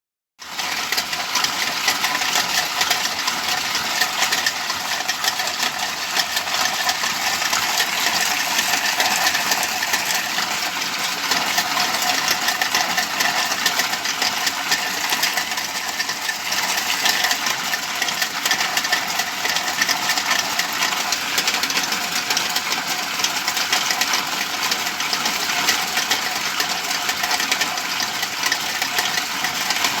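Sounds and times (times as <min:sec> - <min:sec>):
ice cream churn motor rattling: 0:00.4 - 0:30.0.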